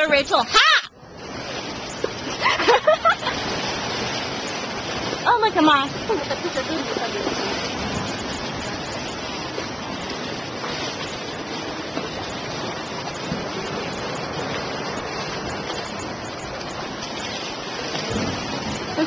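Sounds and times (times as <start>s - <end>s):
surf breaking on boulders: 1.1s - 19.0s.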